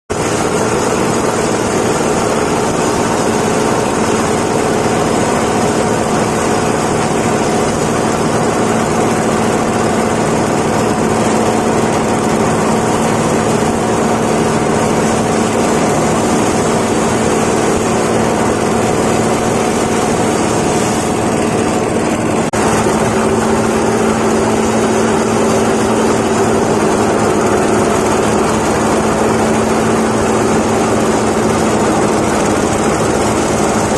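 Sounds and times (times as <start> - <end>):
grinding machine humming: 0.1 - 33.9.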